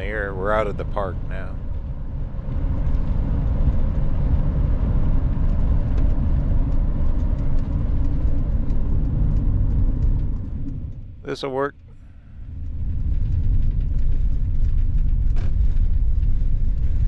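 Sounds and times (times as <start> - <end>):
van engine and tyre rumble: 0.0 - 17.0.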